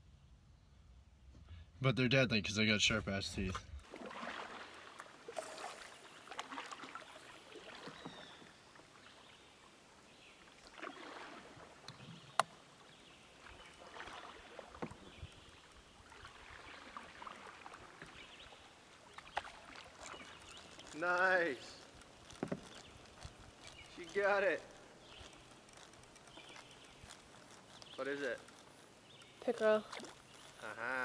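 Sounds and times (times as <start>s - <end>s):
kayak paddle splashing water: 3.8s - 30.9s.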